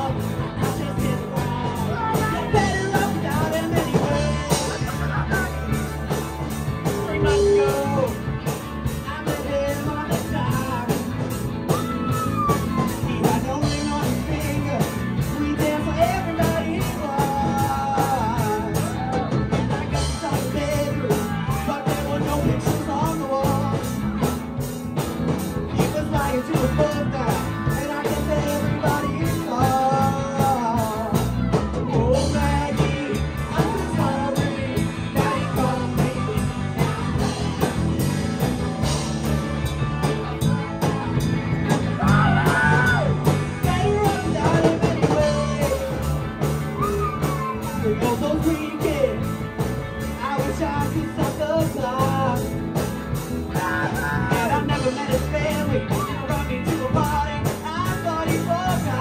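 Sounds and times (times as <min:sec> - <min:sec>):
person singing lead vocal: 0:00.0 - 0:38.1, 0:38.8 - 0:59.0
rock band playing: 0:00.0 - 0:59.0.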